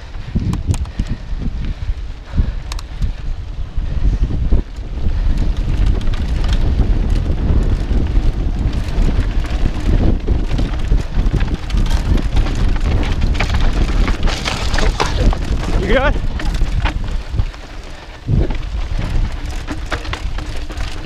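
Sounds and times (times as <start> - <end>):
bike tyres crunching on rocky dirt: 0.0 - 21.0
wind buffeting microphone: 0.0 - 21.0
bike and camera mount rattling: 0.4 - 1.3, 2.4 - 3.3, 4.5 - 21.0.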